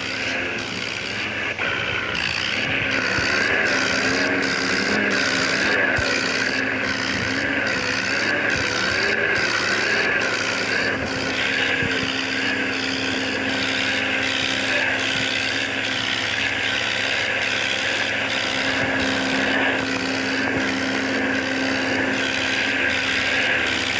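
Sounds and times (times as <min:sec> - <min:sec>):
diesel tractor engines running: 0:00.0 - 0:23.9.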